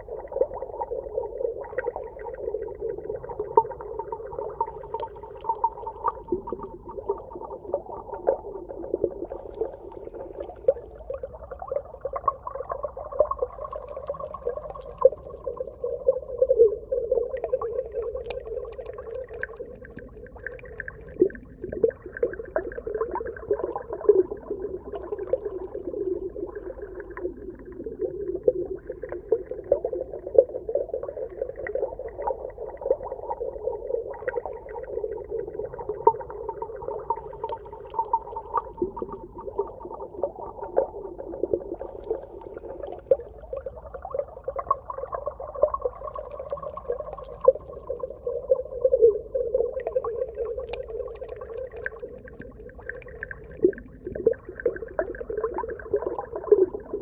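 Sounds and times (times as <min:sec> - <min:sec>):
crackle of small clicks: 0:03.2 - 0:07.3, 0:12.2 - 0:15.7, 0:17.4 - 0:33.2, 0:34.0 - 0:57.0.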